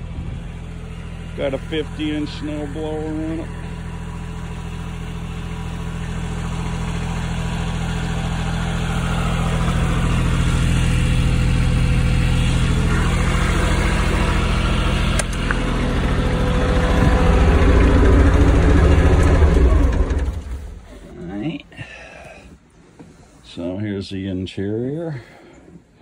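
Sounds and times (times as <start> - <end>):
diesel engine running: 0.0 - 22.5.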